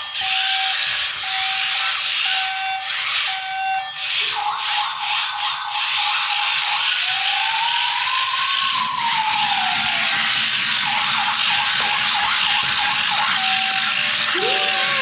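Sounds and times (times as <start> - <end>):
toy siren wailing: 0.0 - 15.0.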